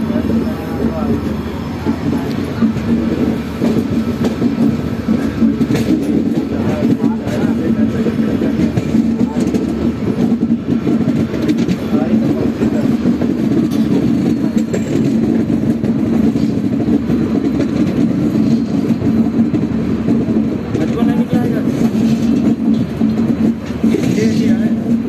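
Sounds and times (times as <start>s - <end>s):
train wheels rumbling on rails: 0.0s - 25.0s
sharp clicks and rattles: 2.1s - 25.0s.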